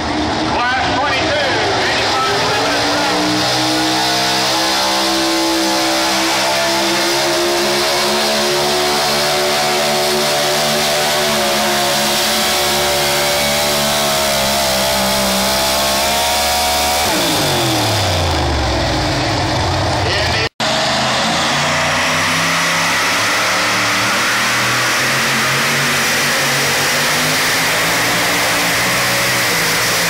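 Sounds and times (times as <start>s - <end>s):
pulling vehicle engine at high revs: 0.0s - 30.0s.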